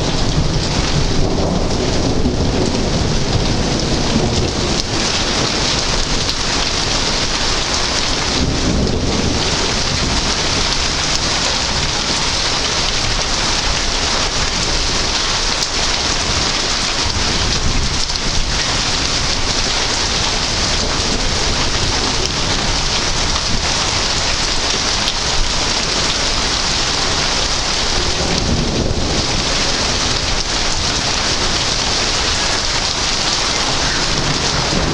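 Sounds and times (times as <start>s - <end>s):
heavy rain pouring: 0.0s - 34.9s
low rumbling thunder: 0.0s - 34.9s.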